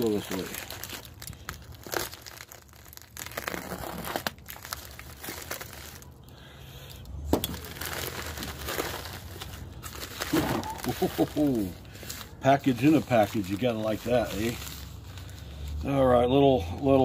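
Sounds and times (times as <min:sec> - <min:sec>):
envelope tearing and crinkling: 0:00.0 - 0:06.2, 0:07.4 - 0:16.3
sharp crackle: 0:00.0 - 0:06.5, 0:07.4 - 0:15.9.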